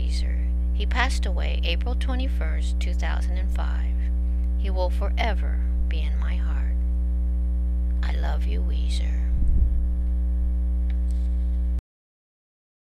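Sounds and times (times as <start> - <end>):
electrical mains hum: 0.0 - 11.8.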